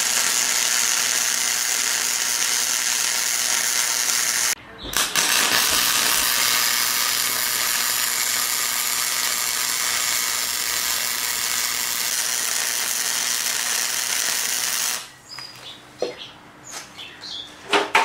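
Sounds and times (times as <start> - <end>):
welding arc crackling: 0.0 - 15.1.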